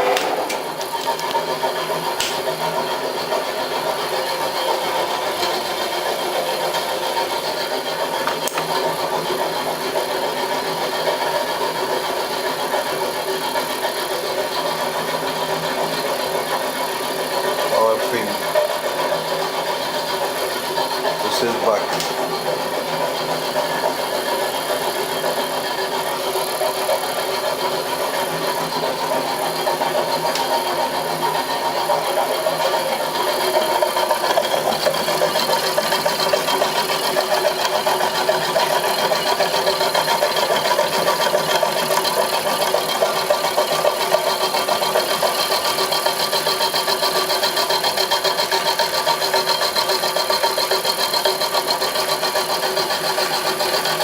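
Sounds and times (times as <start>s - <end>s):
milling machine hum and rattle: 0.0s - 54.0s.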